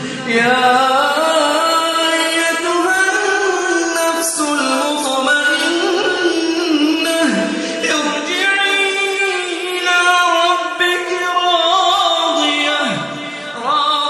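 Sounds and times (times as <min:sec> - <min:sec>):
person chanting melodic recitation: 0:00.0 - 0:14.0.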